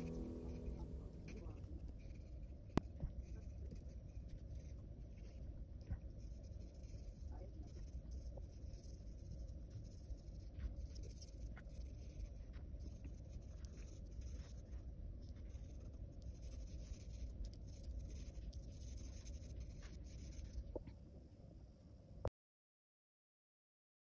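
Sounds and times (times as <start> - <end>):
pencil scratching on paper: 0.0 - 20.8.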